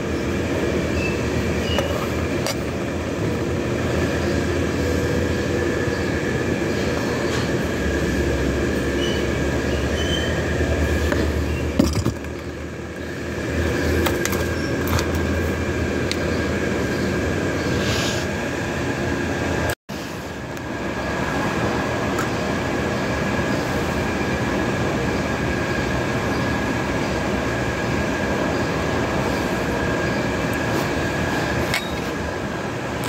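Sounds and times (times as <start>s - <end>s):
mechanical rushing hum: 0.0s - 33.0s
thin steady whine: 0.0s - 33.0s.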